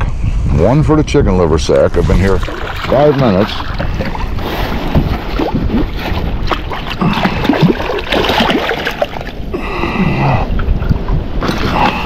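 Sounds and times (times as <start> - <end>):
water splashing: 1.8 - 12.0.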